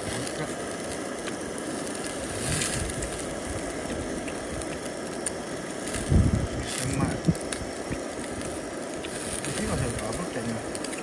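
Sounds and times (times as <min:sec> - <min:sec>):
meat sizzling on charcoal grill: 0:00.0 - 0:11.0.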